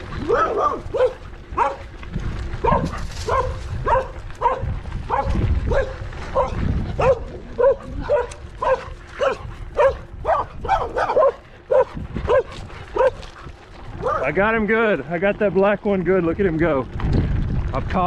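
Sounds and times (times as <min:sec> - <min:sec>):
dogs barking: 0:00.0 - 0:14.5
low rumble: 0:00.0 - 0:18.0.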